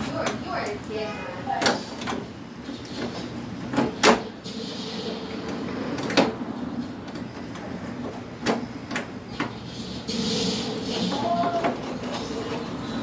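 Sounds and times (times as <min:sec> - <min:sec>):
steady low hum: 0:01.8 - 0:13.0.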